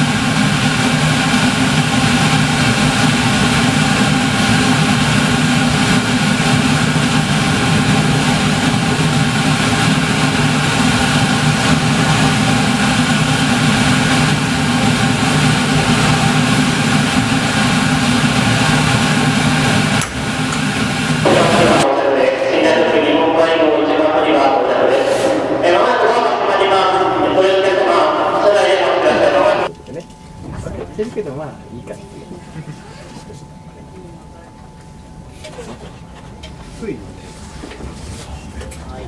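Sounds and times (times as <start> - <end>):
train running hum: 0.0 - 39.0.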